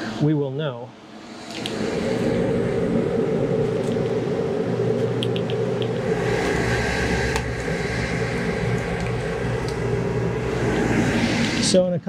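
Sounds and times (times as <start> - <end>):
motor running: 1.0 - 11.8.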